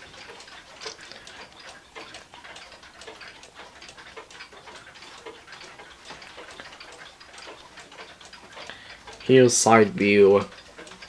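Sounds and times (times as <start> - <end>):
grandfather clock ticking: 0.0 - 11.0.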